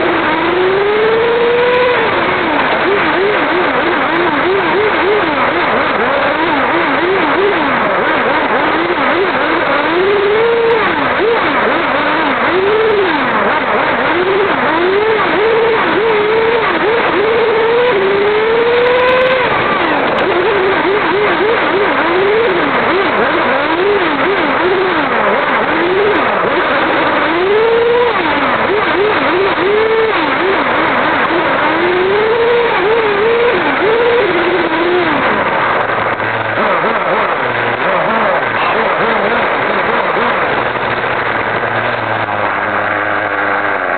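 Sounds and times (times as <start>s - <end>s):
toy car motor revving: 0.0s - 35.6s, 36.4s - 42.0s
wind and road noise: 0.0s - 43.9s.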